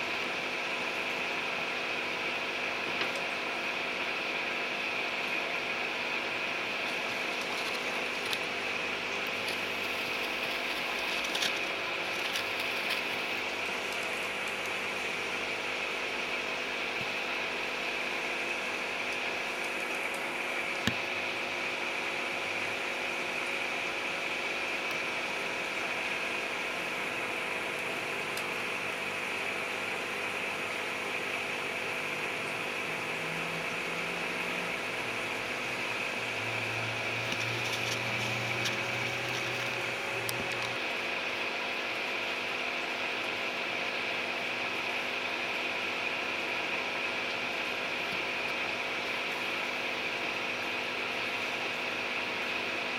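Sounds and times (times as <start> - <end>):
mechanical hum and hiss: 0.0 - 52.9.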